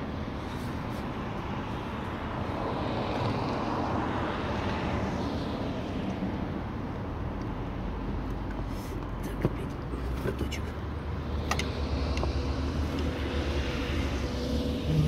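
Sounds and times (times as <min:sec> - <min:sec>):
distant vehicle rumble: 0:00.0 - 0:15.0.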